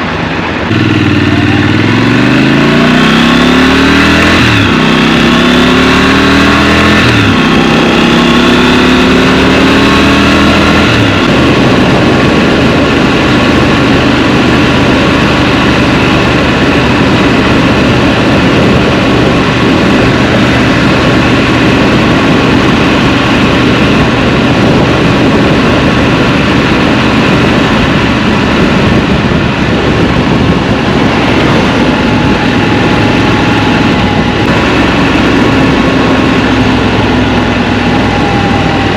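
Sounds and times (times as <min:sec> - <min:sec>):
motorcycle engine accelerating: 0:00.0 - 0:38.9
rushing noise: 0:00.0 - 0:38.9.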